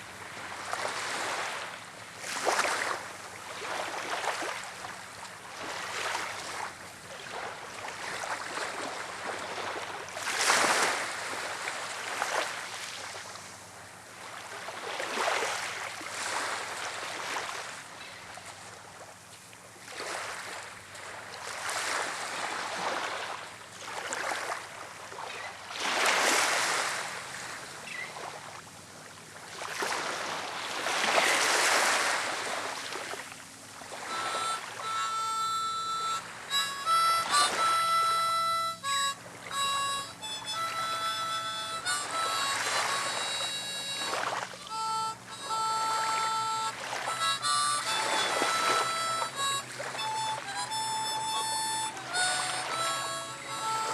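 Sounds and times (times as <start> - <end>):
waves on a shore: 0.0 - 53.9
wind: 0.0 - 53.9.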